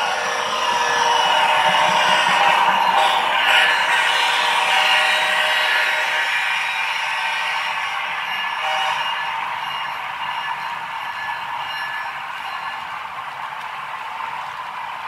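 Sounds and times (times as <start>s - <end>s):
model train wheels rattling on track: 0.0s - 14.7s.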